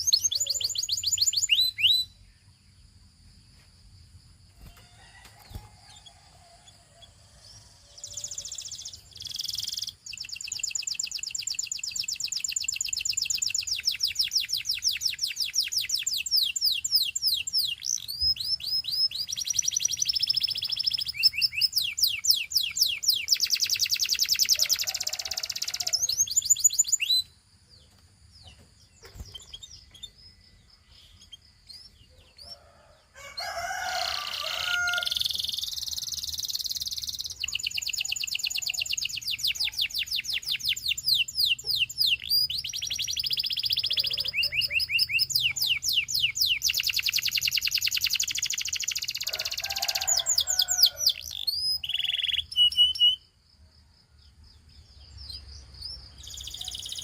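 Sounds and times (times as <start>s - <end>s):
canary singing trills: 0.0s - 3.0s, 4.5s - 53.4s, 54.6s - 57.0s
faint bird chirps: 0.0s - 57.0s.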